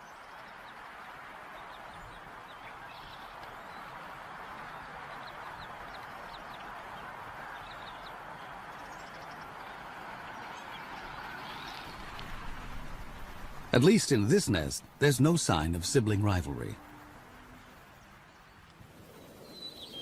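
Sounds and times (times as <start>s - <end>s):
steady rushing hiss: 0.0s - 20.0s.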